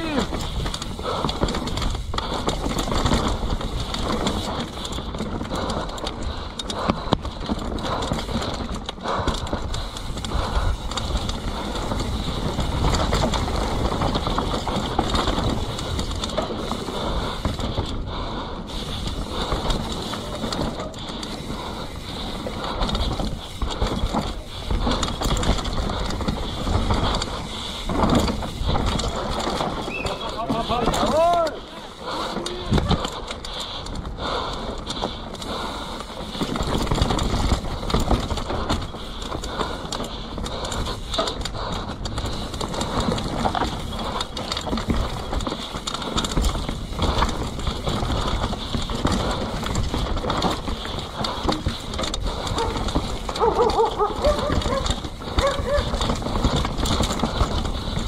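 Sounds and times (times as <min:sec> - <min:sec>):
bike chain and frame rattling: 0:00.0 - 0:58.0
tyres on dirt and leaves: 0:00.0 - 0:58.0.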